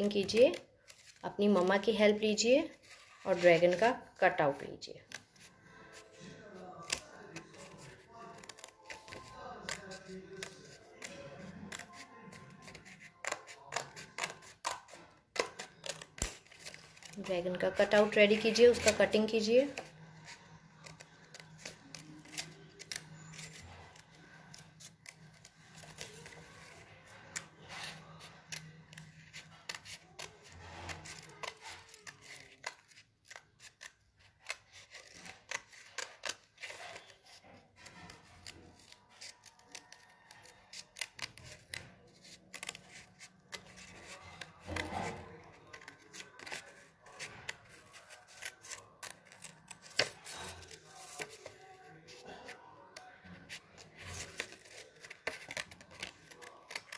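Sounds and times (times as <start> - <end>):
scissors snipping paper: 0.0 - 56.9.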